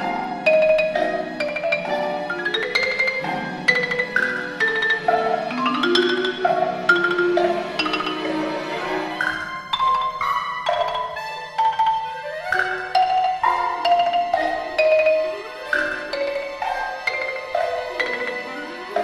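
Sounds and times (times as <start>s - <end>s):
mallet percussion ringing notes: 0.0s - 19.0s
low string chords: 0.7s - 19.0s.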